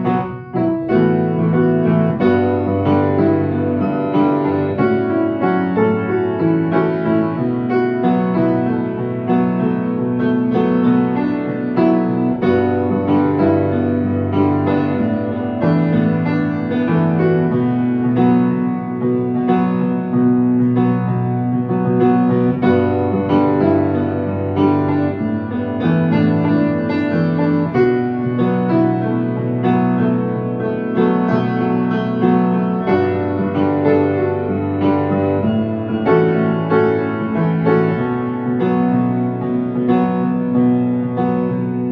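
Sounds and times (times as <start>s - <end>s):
solo piano playing: 0.0s - 41.9s.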